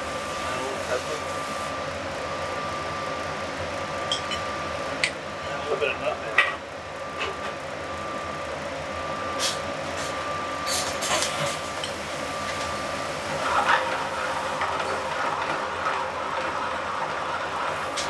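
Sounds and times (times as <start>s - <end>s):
gas range and ventilation running: 0.0s - 18.0s.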